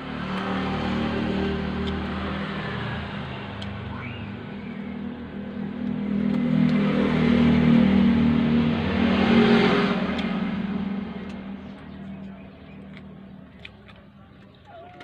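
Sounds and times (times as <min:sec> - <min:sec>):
motor vehicle engine running: 0:00.0 - 0:15.0.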